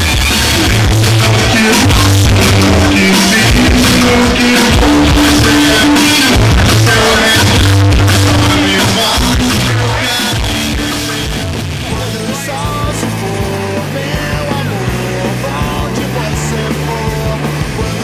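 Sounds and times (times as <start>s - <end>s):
bass guitar: 0.0s - 18.0s
drums: 0.0s - 18.0s
electric guitar: 0.0s - 18.0s
person singing: 0.7s - 18.0s.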